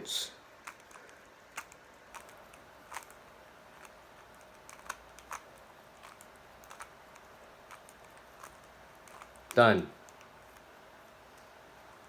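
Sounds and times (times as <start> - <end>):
puzzle cube plastic clicks: 0.6 - 10.7.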